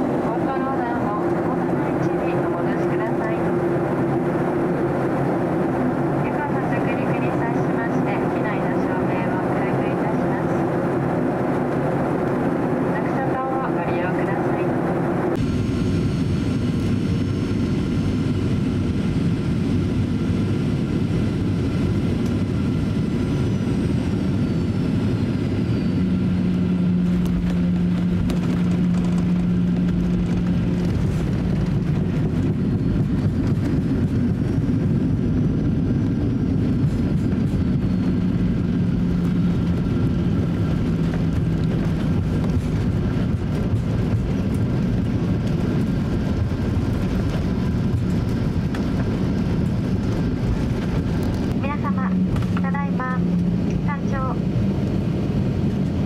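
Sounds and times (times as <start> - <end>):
aircraft cabin engine rush: 0.0 - 56.0
wheels rumbling on runway: 0.0 - 56.0.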